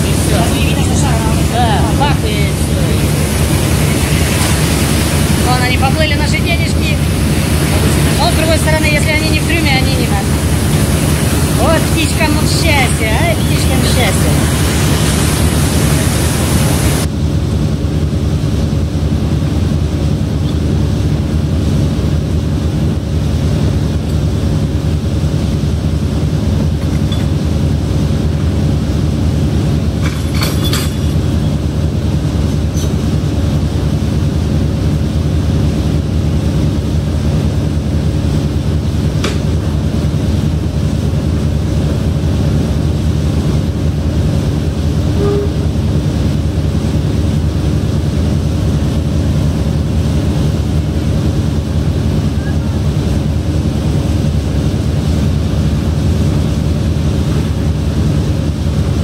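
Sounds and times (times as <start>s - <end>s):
boat engine low drone: 0.0s - 59.0s.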